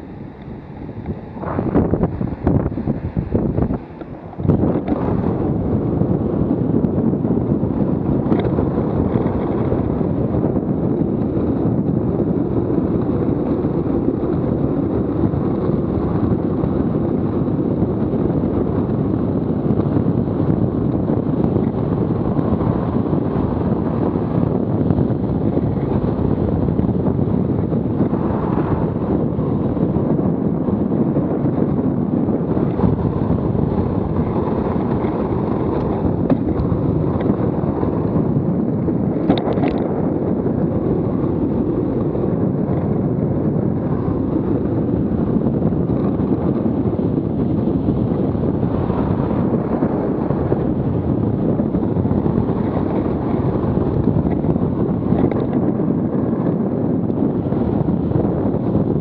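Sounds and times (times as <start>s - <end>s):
wheels rolling on asphalt: 0.0s - 59.0s
wind on microphone: 0.0s - 59.0s.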